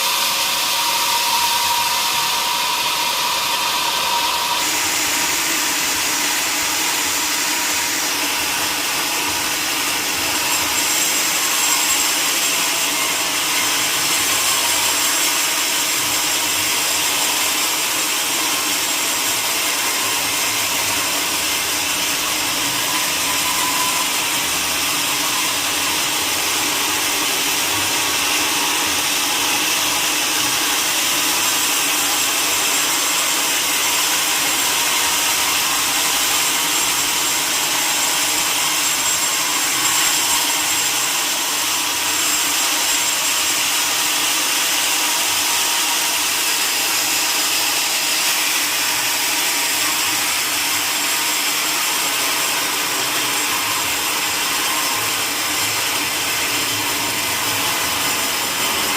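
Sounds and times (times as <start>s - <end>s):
saw cutting through log: 0.0s - 58.9s.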